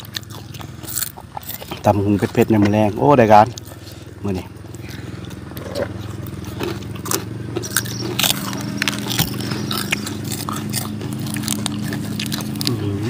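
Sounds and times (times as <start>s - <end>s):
chewing and crunching food: 0.0s - 13.0s
low hum: 0.0s - 13.0s.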